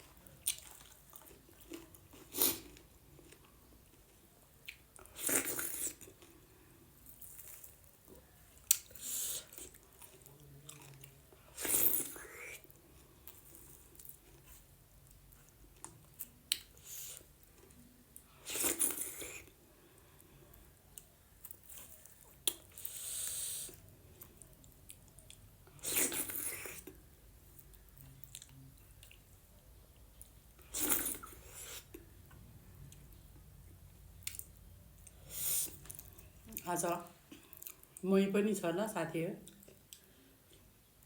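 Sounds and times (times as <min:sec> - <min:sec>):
person chewing: 0:00.0 - 0:33.4, 0:34.2 - 0:38.0, 0:39.5 - 0:40.8.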